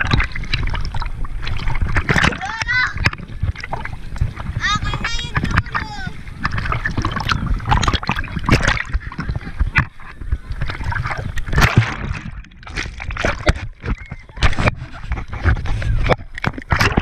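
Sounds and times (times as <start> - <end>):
muffled underwater gurgling: 0.0 - 17.0
sea water splashing: 0.0 - 17.0.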